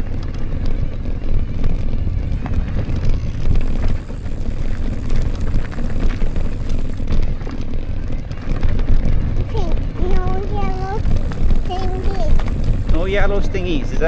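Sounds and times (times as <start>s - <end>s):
bike tyre and trail noise: 0.0s - 14.0s
wind rushing over microphone: 0.0s - 14.0s.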